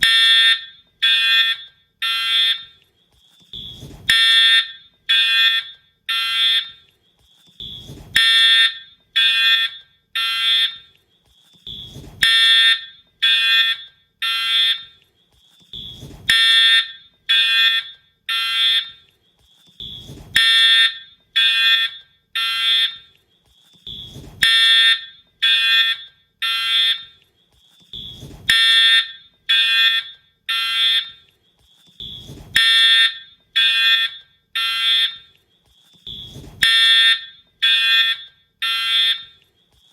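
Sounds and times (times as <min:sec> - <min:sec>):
fire alarm horn blasts: 0:00.0 - 0:02.8, 0:03.5 - 0:06.9, 0:07.6 - 0:11.0, 0:11.6 - 0:15.0, 0:15.7 - 0:19.1, 0:19.8 - 0:23.2, 0:23.8 - 0:27.2, 0:27.9 - 0:31.3, 0:32.0 - 0:35.4, 0:36.0 - 0:39.4.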